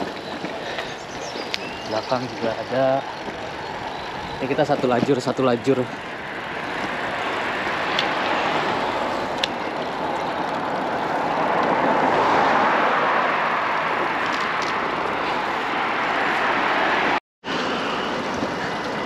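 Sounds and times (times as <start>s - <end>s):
bicycle road noise: 0.0s - 19.0s
rushing wind: 0.0s - 19.0s.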